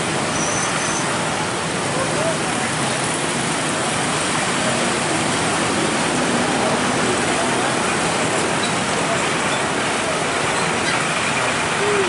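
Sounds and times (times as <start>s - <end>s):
road traffic roar: 0.0s - 12.0s.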